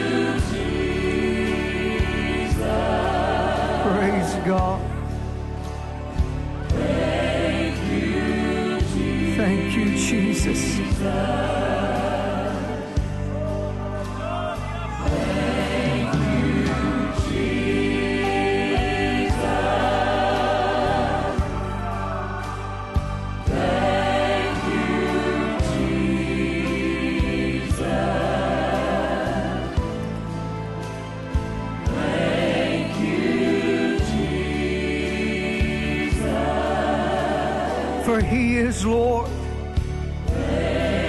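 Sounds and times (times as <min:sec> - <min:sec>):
choir singing gospel song: 0:00.0 - 0:41.0.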